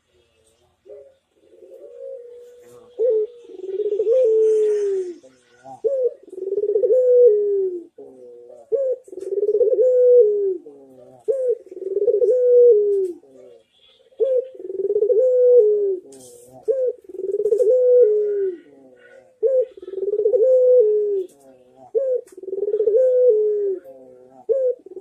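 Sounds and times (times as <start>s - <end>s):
dove cooing: 0.8s - 25.0s.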